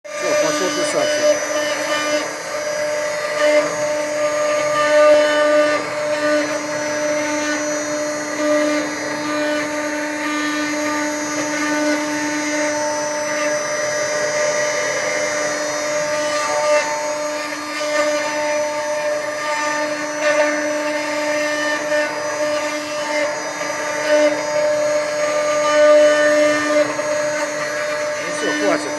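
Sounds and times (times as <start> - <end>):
wood router spindle whine: 0.0 - 28.9
router bit cutting wood: 0.1 - 28.9.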